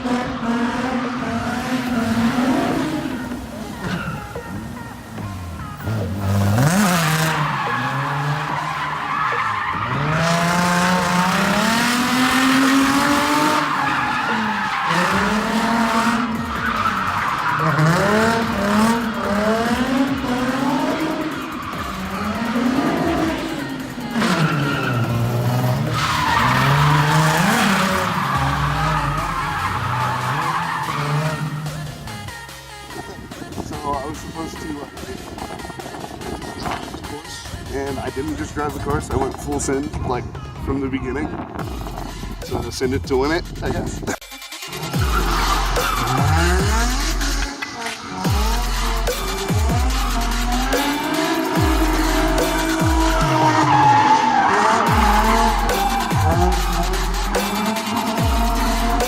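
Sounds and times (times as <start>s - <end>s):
car engine revving: 0.0s - 37.6s, 41.3s - 59.0s
tyres squealing and skidding: 0.0s - 59.0s.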